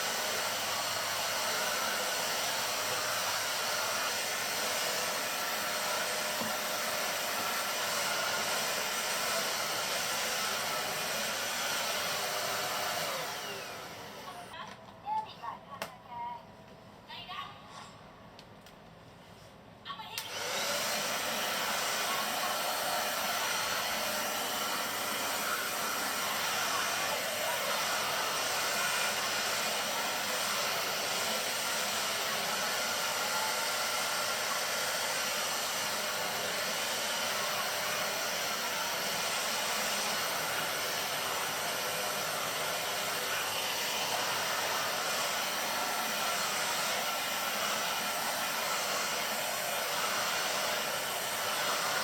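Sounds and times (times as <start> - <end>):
vacuum cleaner running: 0.0 - 14.5, 20.2 - 52.0.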